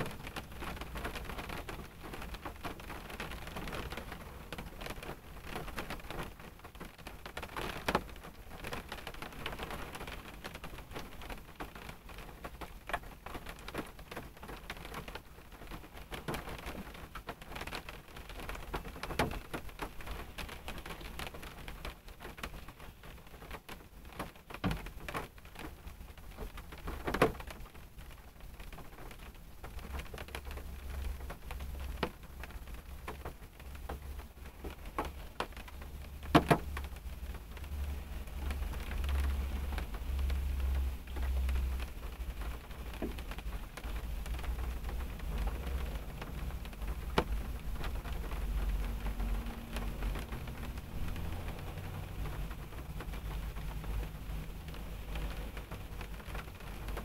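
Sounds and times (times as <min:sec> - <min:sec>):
rain hissing on car: 0:00.0 - 0:57.0
raindrop ticks: 0:00.0 - 0:57.0.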